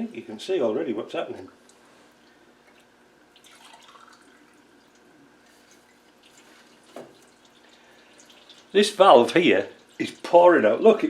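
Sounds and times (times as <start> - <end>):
petrol dripping and trickling: 1.5 - 10.4.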